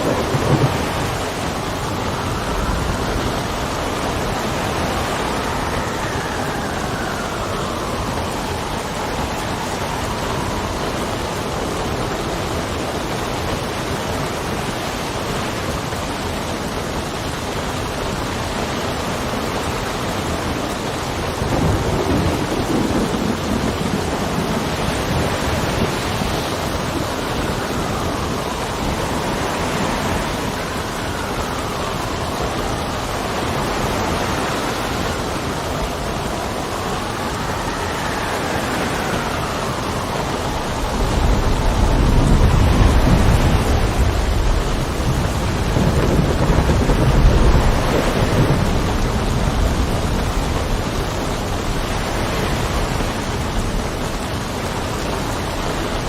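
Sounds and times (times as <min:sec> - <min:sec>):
heavy rain: 0:00.0 - 0:56.0
low roll of thunder: 0:00.0 - 0:56.0
wind whistling in gusts: 0:00.0 - 0:56.0.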